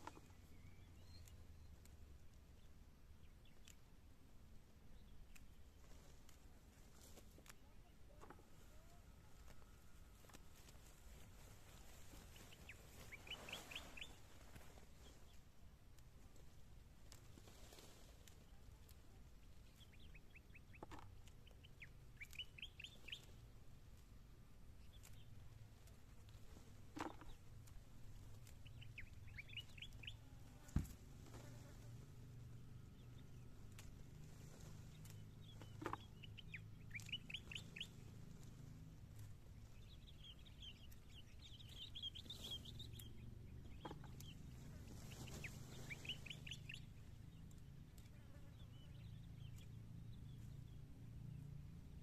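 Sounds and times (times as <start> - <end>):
songbird chirping: 0.0 - 52.0.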